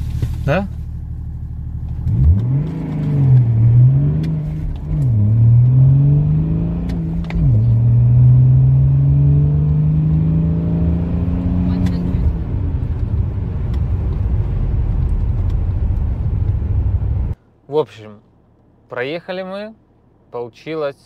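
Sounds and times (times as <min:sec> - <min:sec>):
diesel car engine accelerating: 0:00.0 - 0:17.4.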